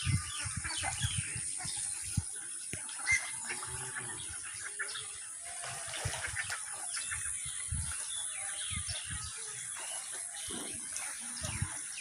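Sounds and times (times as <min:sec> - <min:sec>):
chickens and ducks calling: 0:00.0 - 0:12.0.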